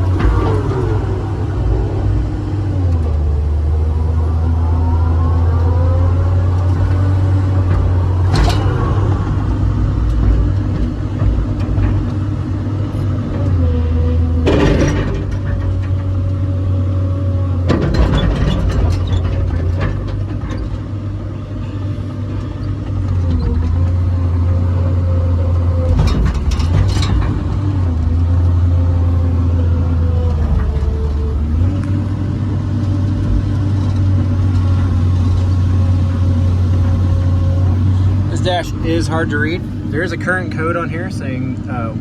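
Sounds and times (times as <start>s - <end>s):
excavator diesel engine: 0.0s - 42.0s.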